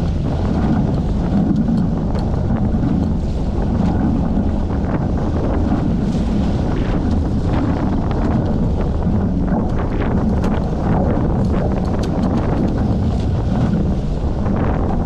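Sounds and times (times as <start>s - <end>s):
water rushing along hulls: 0.0s - 15.0s
wind buffeting microphone: 0.0s - 15.0s.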